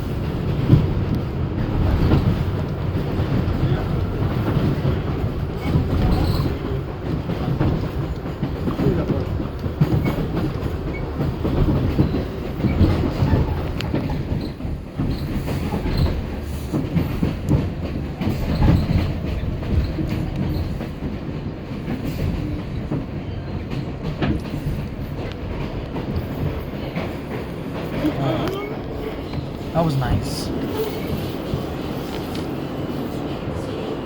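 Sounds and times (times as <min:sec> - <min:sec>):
subway wheels rumbling on rail: 0:00.0 - 0:34.0.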